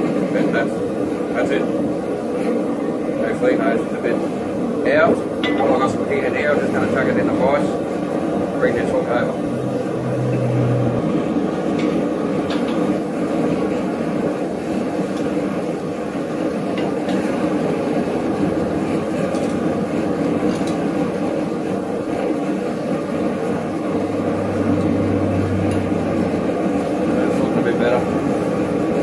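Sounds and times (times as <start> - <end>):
forge equipment droning: 0.1 - 29.0.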